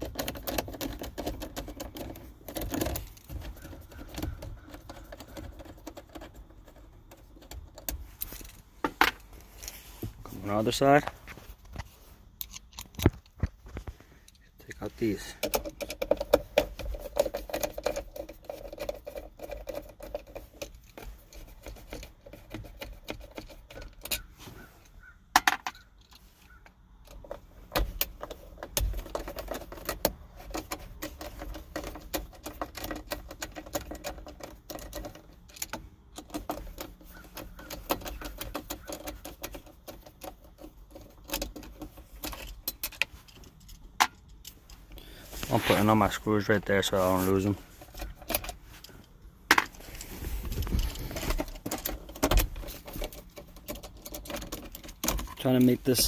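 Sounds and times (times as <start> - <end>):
metal tool and screws rattling: 0.0 - 11.8, 12.4 - 56.0.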